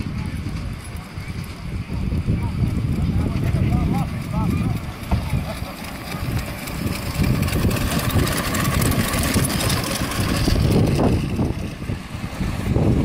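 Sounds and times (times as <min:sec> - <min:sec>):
miniature train rumbling on track: 0:00.0 - 0:13.0.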